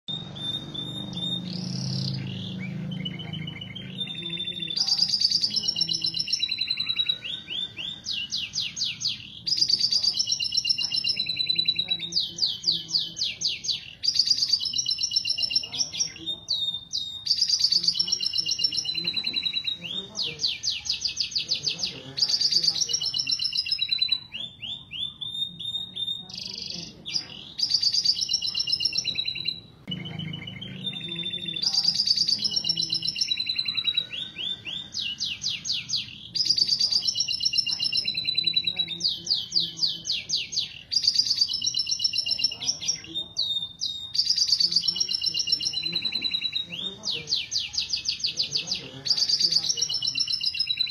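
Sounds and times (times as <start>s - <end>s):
canary singing trills: 0.0s - 50.9s
hen canary calling: 0.0s - 50.9s.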